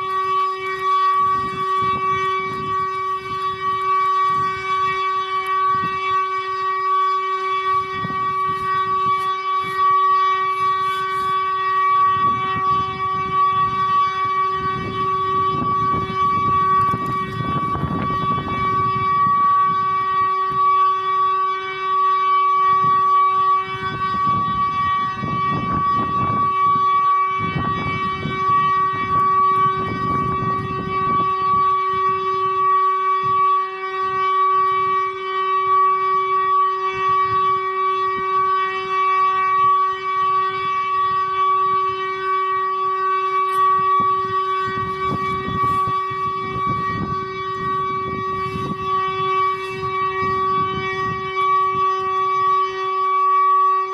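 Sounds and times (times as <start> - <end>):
siren steady tone: 0.0 - 53.9.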